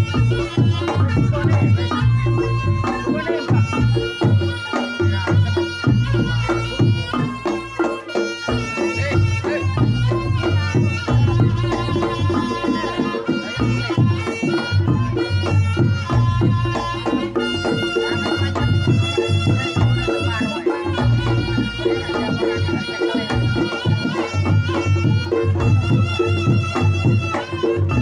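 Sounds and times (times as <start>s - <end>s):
deep drum beats: 0.0s - 28.0s
hand drumming: 0.0s - 28.0s
nasal shawm melody: 0.0s - 28.0s.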